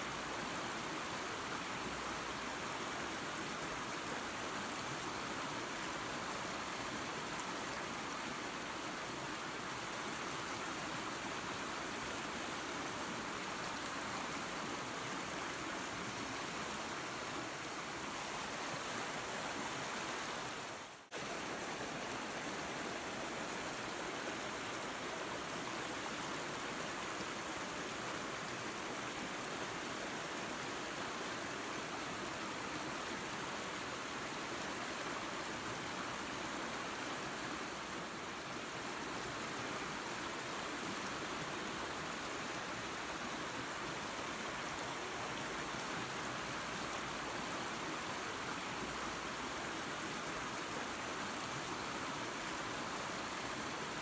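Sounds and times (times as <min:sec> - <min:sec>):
waterfall and creek rushing: 0:00.0 - 0:54.0.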